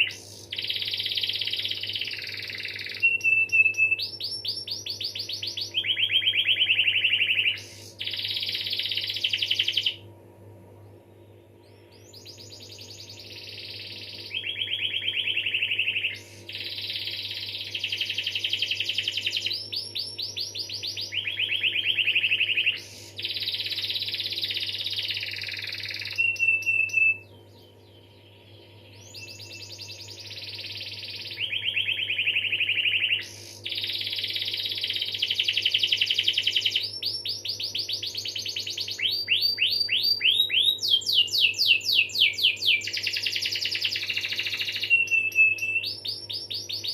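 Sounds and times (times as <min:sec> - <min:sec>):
canary singing trills: 0:00.0 - 0:10.1, 0:11.2 - 0:46.9
faint low hum: 0:00.0 - 0:46.9.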